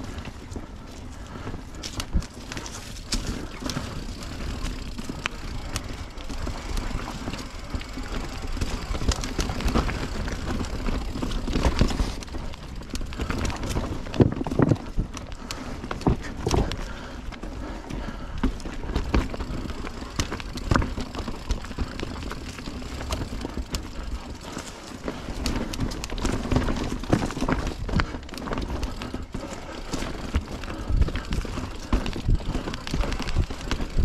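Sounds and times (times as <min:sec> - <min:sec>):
bike knocking and rattling: 0:00.0 - 0:34.0
bike tyres on dirt trail: 0:00.0 - 0:34.0.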